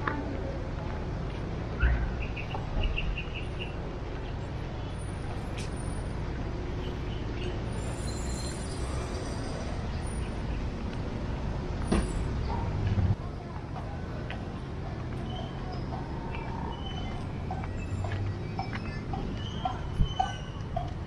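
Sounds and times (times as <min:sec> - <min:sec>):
street traffic passing: 0:00.0 - 0:21.0.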